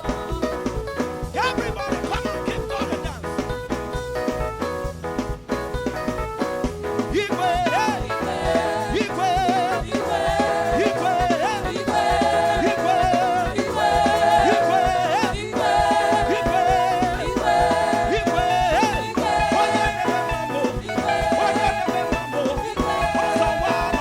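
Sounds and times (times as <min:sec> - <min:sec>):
gospel singing with band: 0:00.0 - 0:04.0, 0:06.8 - 0:24.0.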